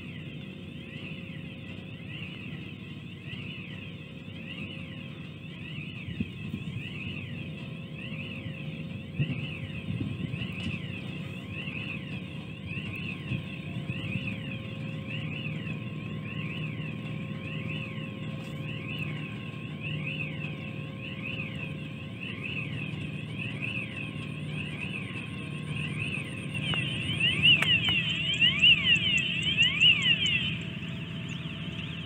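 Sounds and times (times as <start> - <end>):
machinery rumble and hum: 0.0 - 32.0
warbling warning alarm: 0.0 - 32.0.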